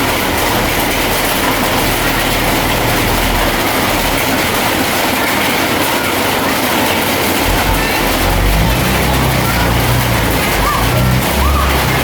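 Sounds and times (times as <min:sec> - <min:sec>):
diesel engine hum: 0:00.0 - 0:12.0
steel tracks clattering: 0:00.0 - 0:12.0.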